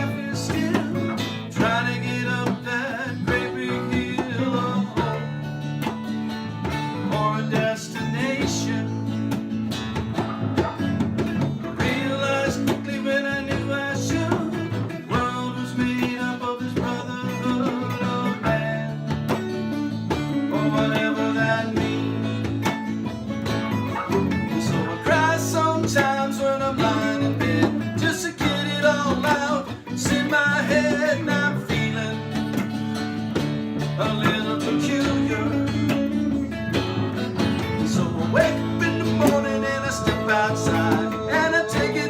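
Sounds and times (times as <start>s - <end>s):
person singing: 0.0s - 6.0s, 6.6s - 9.4s, 10.2s - 22.8s, 23.9s - 33.0s, 33.8s - 42.0s
live rock band: 0.0s - 42.0s
strummed acoustic guitar: 0.0s - 42.0s.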